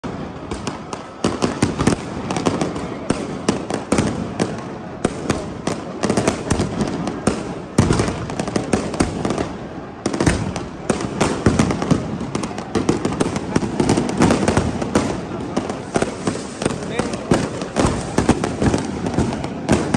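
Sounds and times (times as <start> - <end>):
fireworks bangs and crackles: 0.0 - 19.9
heavy firework booms: 0.0 - 19.9.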